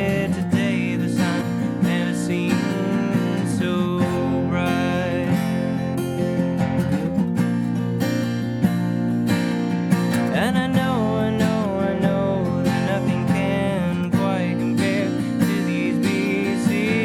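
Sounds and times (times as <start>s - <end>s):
acoustic guitar folk song: 0.0s - 17.0s.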